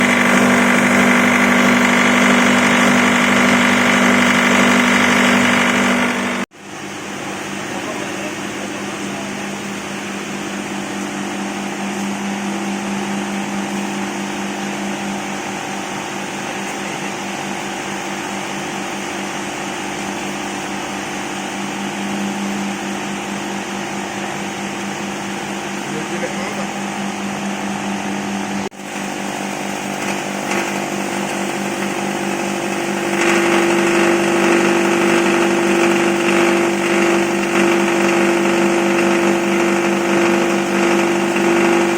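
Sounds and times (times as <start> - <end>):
grinding machine humming: 0.0 - 41.9.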